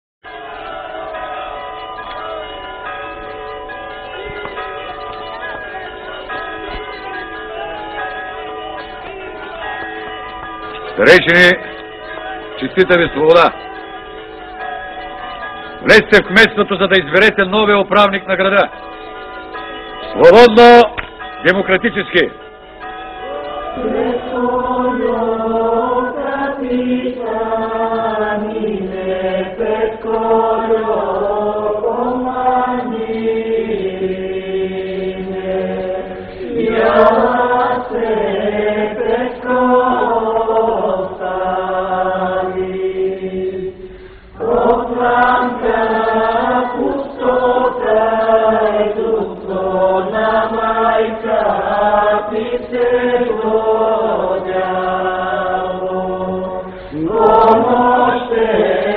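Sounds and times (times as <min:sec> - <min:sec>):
choir singing long notes: 0:00.2 - 0:03.8, 0:05.4 - 0:13.6, 0:23.1 - 0:58.9.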